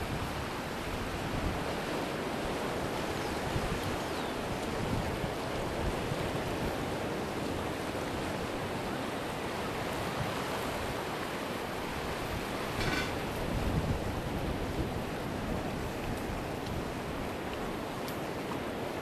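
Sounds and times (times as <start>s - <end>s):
surf on rocky shore: 0.0s - 19.0s
wind rumbling on microphone: 0.0s - 19.0s.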